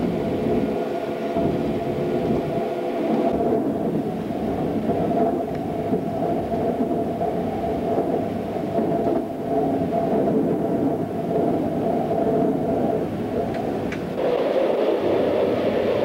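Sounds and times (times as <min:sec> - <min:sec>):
constant hum: 0:00.0 - 0:16.0
train wheels rumbling on rails: 0:00.0 - 0:16.0.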